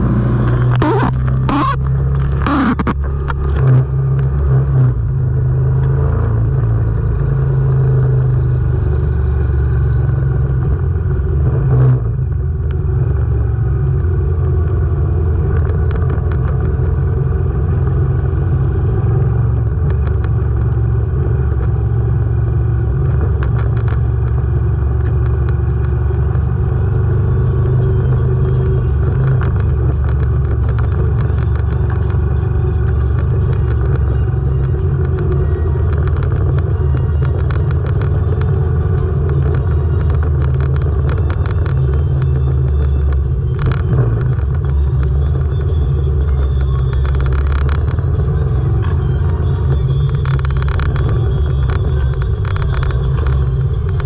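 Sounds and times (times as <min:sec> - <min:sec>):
v-twin motorcycle engine running: 0:00.0 - 0:11.4, 0:12.0 - 0:54.0
group of motorcycle engines: 0:00.0 - 0:54.0.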